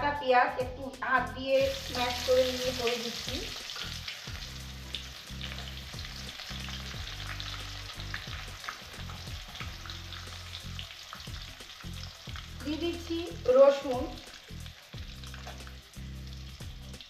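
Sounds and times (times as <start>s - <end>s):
onions sizzling in hot oil: 1.4s - 17.0s.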